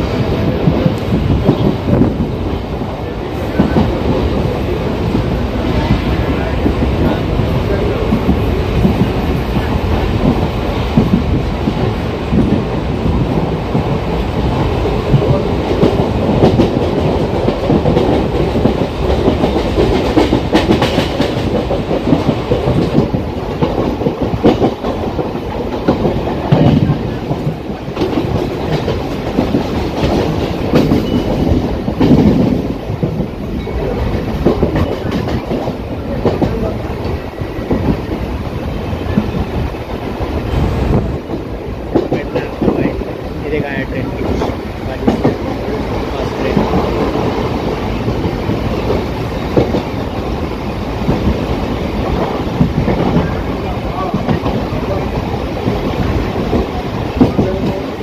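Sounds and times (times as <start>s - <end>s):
train rumble: 0.0s - 58.0s
wheels clacking over rails: 0.0s - 58.0s.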